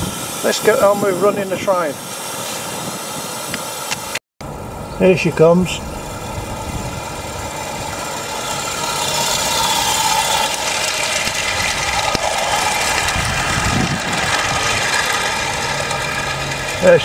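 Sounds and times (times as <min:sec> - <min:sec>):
steam hissing: 0:00.0 - 0:04.2, 0:04.8 - 0:17.0
train wheels rolling on track: 0:00.0 - 0:17.0.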